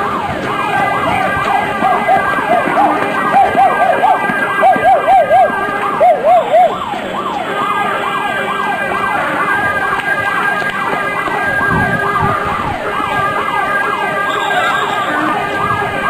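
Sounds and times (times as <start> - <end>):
alarm siren falling sweeps: 0.0 - 16.0
steady higher alarm tone: 0.0 - 16.0.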